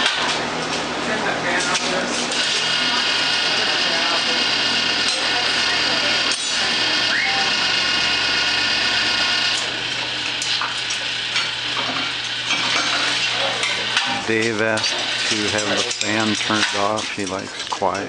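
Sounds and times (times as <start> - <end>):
furnace burner roaring: 0.0 - 18.0
ventilation fan running: 0.0 - 18.0.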